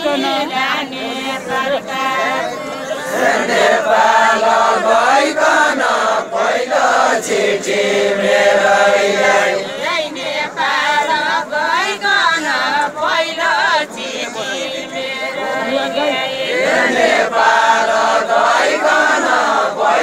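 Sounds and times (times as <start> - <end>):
group singing unaccompanied folk song: 0.0 - 20.0.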